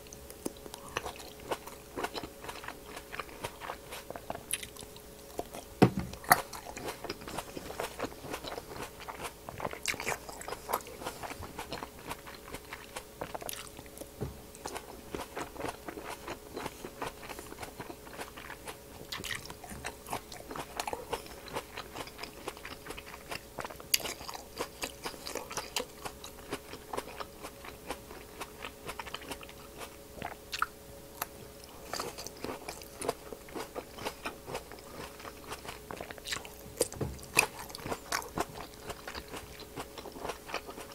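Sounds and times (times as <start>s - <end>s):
chewing grapes crunching: 0.0s - 40.9s
faint steady hum: 0.0s - 40.9s.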